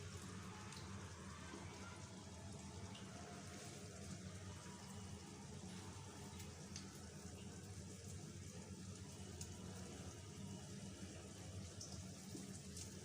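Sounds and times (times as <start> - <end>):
fritters sizzling in oil: 0.0 - 13.0.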